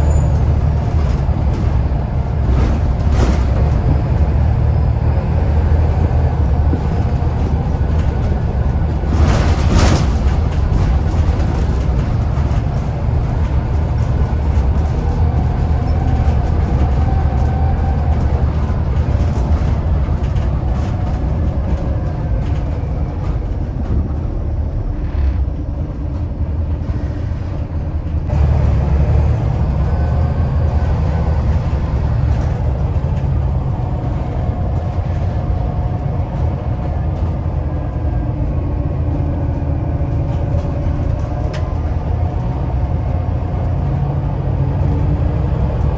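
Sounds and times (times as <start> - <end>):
bus diesel engine rumbling: 0.0 - 45.9.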